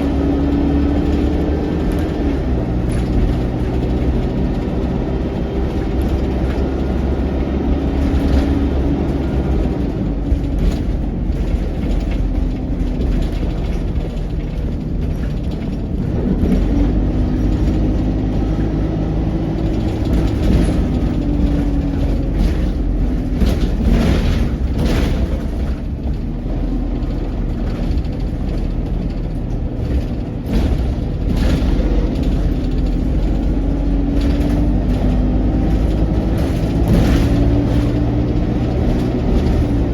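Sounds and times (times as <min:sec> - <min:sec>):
body rattles and knocks: 0:00.0 - 0:39.9
bus engine rumbling: 0:00.0 - 0:39.9.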